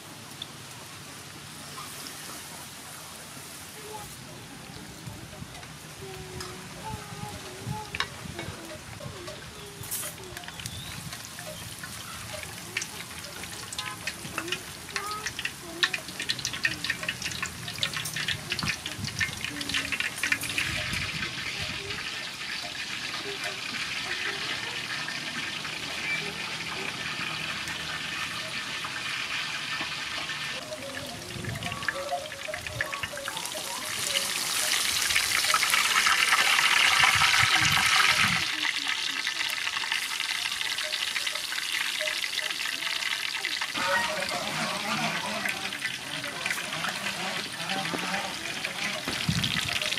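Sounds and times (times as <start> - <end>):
shrimp deep-frying with crackling pops: 0.0 - 49.9.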